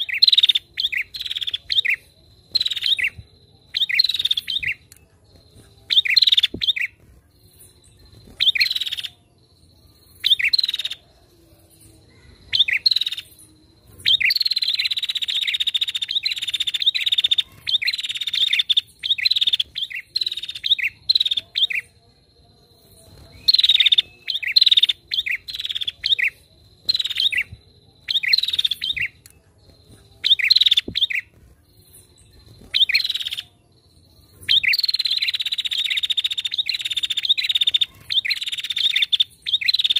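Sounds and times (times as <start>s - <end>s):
bird chattering and trilling: 0.0s - 9.3s, 9.9s - 11.0s, 12.2s - 22.1s, 22.9s - 33.6s, 34.2s - 39.9s.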